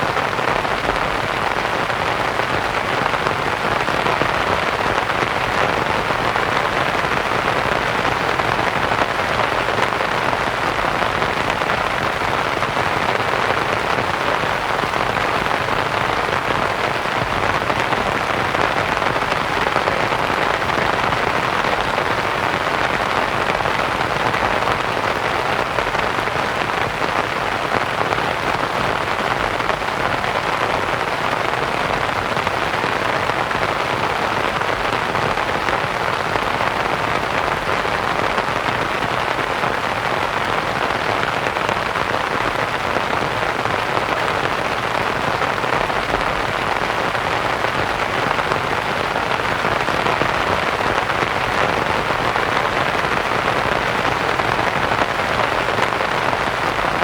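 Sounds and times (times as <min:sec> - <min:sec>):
rain pattering on a tent: 0:00.0 - 0:57.0.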